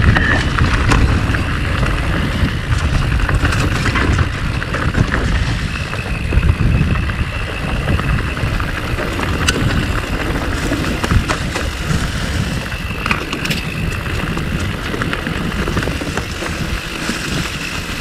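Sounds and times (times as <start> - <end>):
bike clicking and rattling: 0.0 - 18.0
bike tyre noise: 0.0 - 18.0
wind rumbling on microphone: 0.0 - 18.0.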